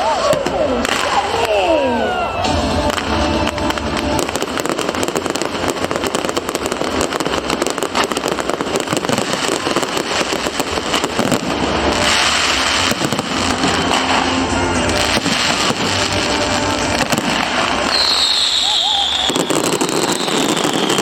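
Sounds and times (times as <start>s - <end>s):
fireworks crackling: 0.0s - 21.0s
loud hiss: 2.4s - 21.0s.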